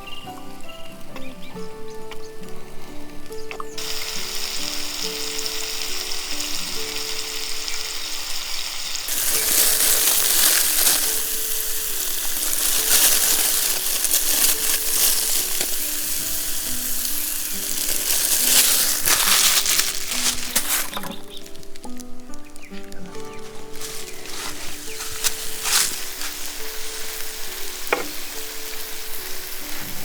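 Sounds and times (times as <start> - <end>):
frying crackles: 0.0 - 30.0
food sizzling in a pan: 3.8 - 30.0.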